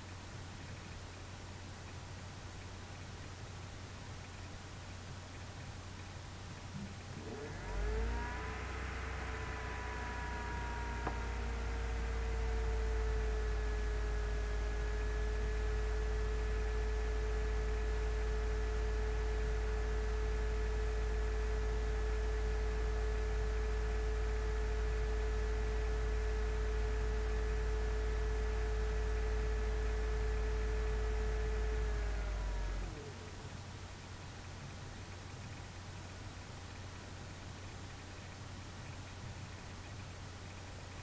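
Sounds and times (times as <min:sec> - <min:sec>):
low hum: 0:00.0 - 0:41.0.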